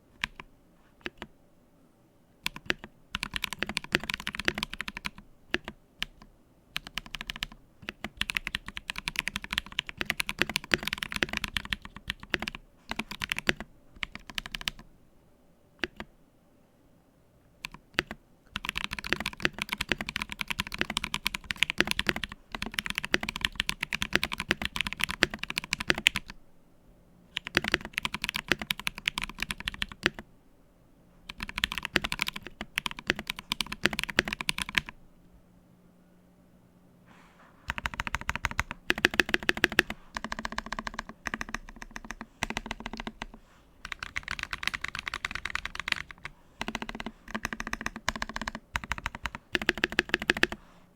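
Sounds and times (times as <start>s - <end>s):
mechanical keyboard typing: 0.2s - 1.3s, 2.4s - 14.8s, 15.8s - 16.1s, 17.6s - 26.4s, 27.3s - 30.2s, 31.3s - 35.0s, 37.7s - 50.6s.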